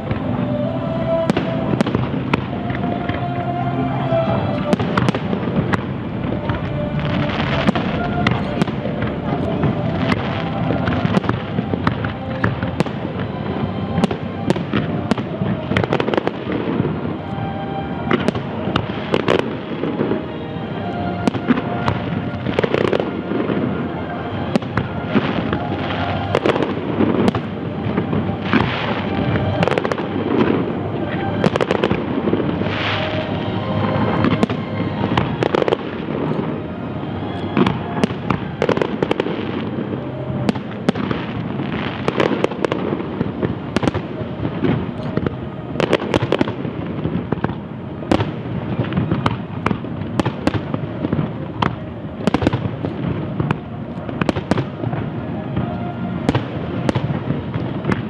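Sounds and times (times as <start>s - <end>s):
fireworks crackle and rumble: 0.0s - 58.0s.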